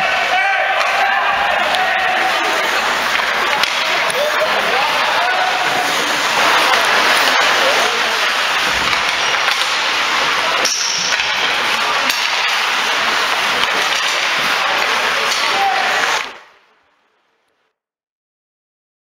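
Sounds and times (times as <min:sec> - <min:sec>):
distant shouting voices: 0:00.0 - 0:16.3
hockey sticks and puck clacking: 0:00.0 - 0:16.5
crowd noise: 0:00.0 - 0:17.7.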